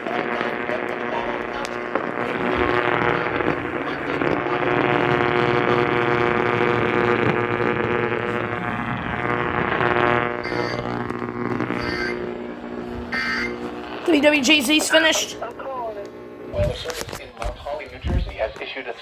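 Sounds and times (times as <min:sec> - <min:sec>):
radio coarse buzz: 0:00.0 - 0:19.0.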